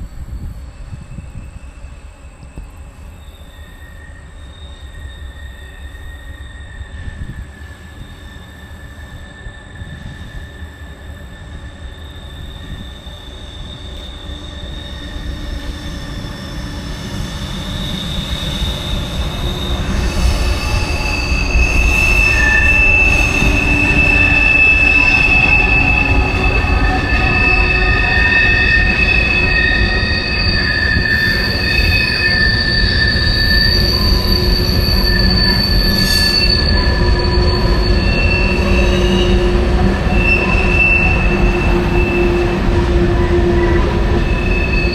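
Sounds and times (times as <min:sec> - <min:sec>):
freight train rolling past: 0:00.0 - 0:44.9
train wheels squealing: 0:00.0 - 0:44.9.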